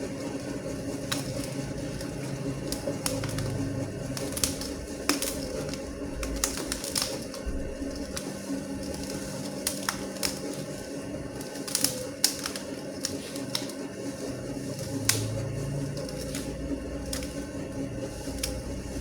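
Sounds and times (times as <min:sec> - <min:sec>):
dough mixer humming: 0:00.0 - 0:19.0.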